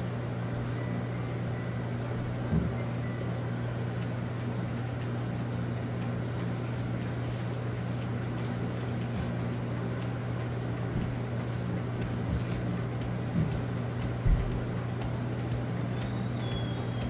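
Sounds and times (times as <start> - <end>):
aquarium equipment hiss: 0.0 - 17.0
low electric hum: 0.0 - 17.0.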